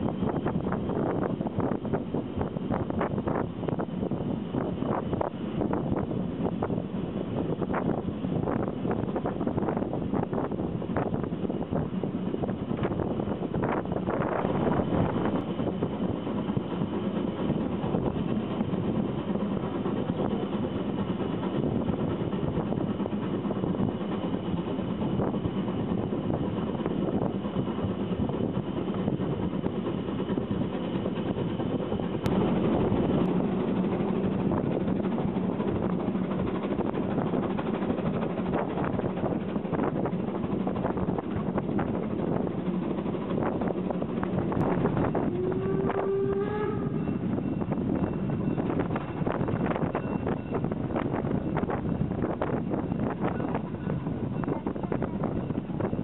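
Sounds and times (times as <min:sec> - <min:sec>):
steam train rumble: 0:00.0 - 0:56.0
wind buffeting microphone: 0:00.0 - 0:56.0
wheels clattering on rails: 0:07.4 - 0:56.0.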